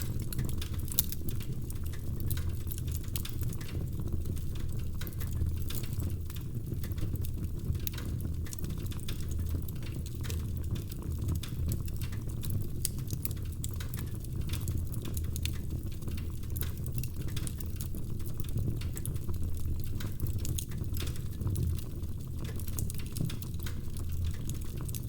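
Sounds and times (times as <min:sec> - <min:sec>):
logs crackling in fireplace: 0:00.0 - 0:25.0.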